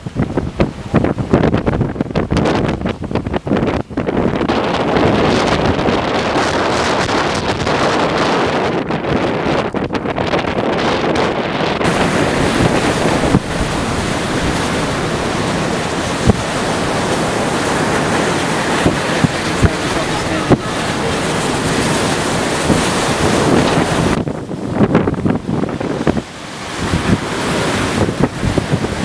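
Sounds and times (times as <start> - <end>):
gusts thumping the microphone: 0.0 - 29.0
pounding surf: 0.0 - 29.0
strong wind buffeting microphone: 0.0 - 29.0.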